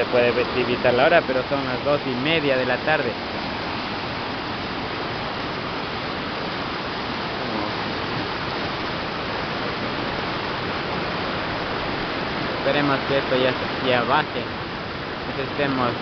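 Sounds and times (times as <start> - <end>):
river rushing through rapids: 0.0 - 16.0.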